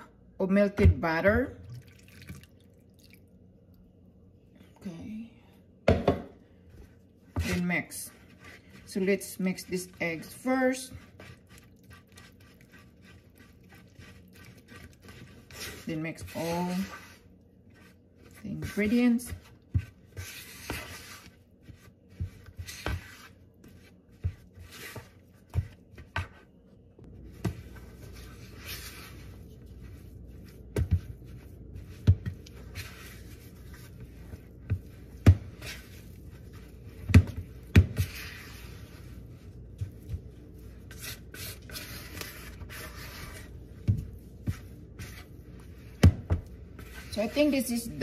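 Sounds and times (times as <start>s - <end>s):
spatula stirring cookie dough: 6.4s - 48.0s.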